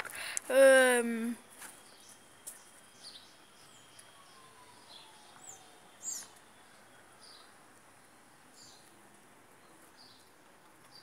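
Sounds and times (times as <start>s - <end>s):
faint birds chirping: 0.1s - 11.0s.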